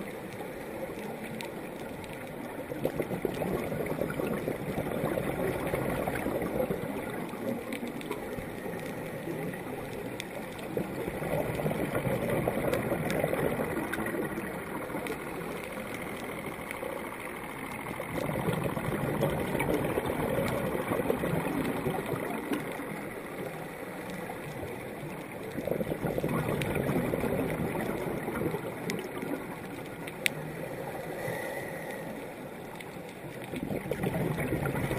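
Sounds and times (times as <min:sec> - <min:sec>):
underwater exhaled bubbles: 0:00.0 - 0:34.9.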